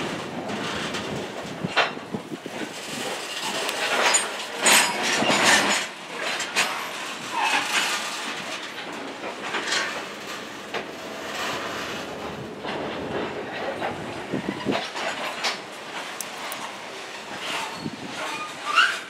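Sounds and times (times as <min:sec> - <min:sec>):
train cars clanking and rattling: 0:00.0 - 0:19.0
train wheels rumbling on rails: 0:00.0 - 0:19.0.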